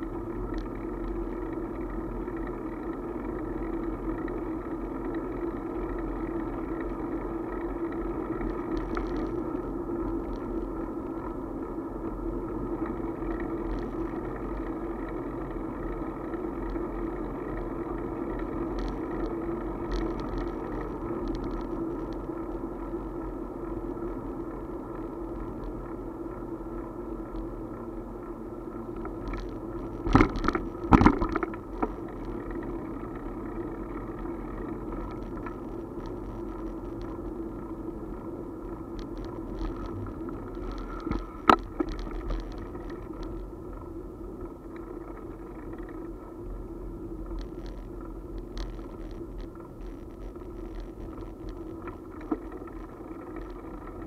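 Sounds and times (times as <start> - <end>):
bicycle ride hum and road rumble: 0.0 - 54.0.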